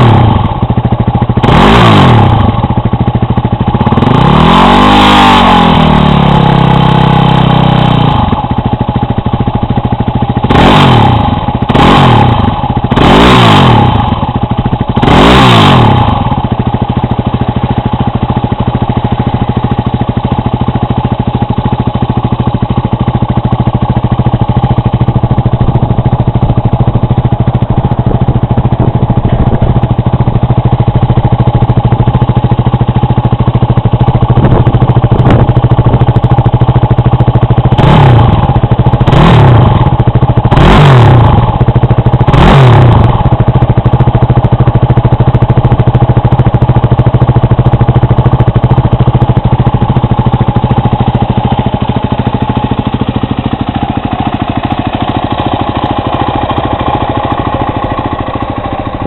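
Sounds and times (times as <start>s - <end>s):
motorcycle engine idling: 0.0s - 59.0s
motorcycle throttle blips: 8.2s - 59.0s.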